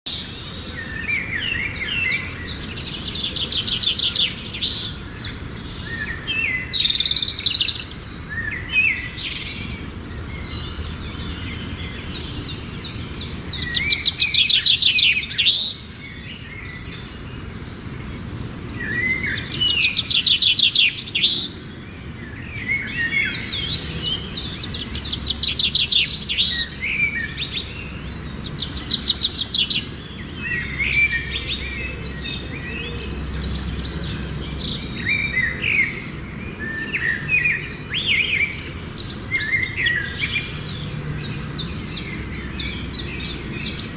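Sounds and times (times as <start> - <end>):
small birds singing: 0.0 - 43.9.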